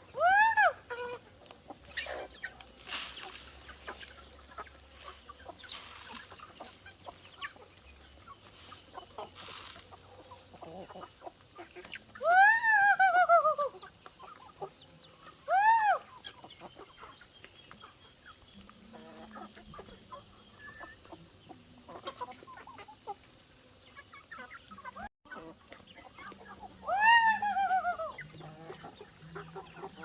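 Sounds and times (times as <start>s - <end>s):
chickens calling: 0.0s - 30.0s
chickens clucking: 0.0s - 30.0s.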